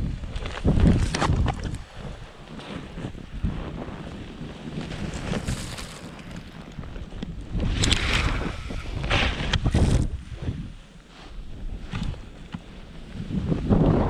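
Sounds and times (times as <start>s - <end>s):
wind on microphone: 0.0s - 14.0s
snowboard slashing through powder: 1.8s - 14.0s.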